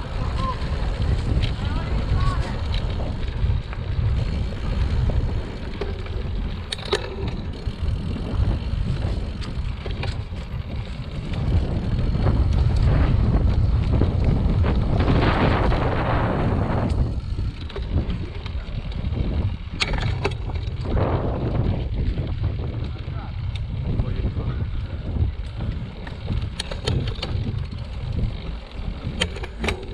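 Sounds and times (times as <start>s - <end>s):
bike rattling: 0.0s - 29.9s
wind buffeting microphone: 0.0s - 29.9s.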